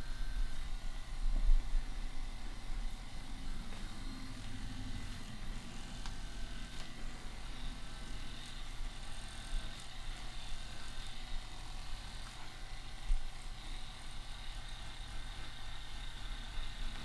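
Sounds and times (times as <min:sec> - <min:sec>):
massage gun motor humming: 0:00.0 - 0:17.0.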